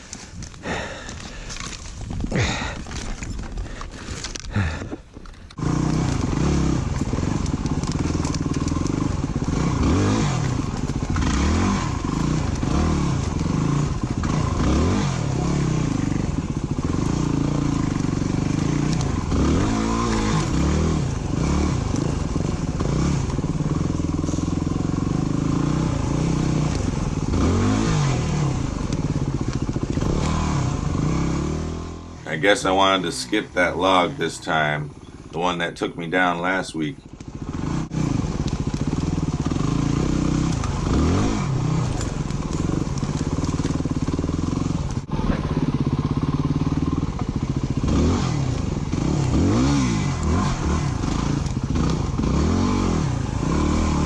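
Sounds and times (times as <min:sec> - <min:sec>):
dirt bike engine revving: 0:05.5 - 0:54.0.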